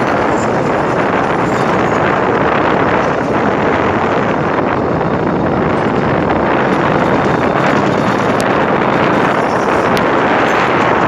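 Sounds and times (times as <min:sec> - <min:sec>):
rushing noise of train ride: 0:00.0 - 0:11.0
wind buffeting microphone: 0:00.0 - 0:11.0.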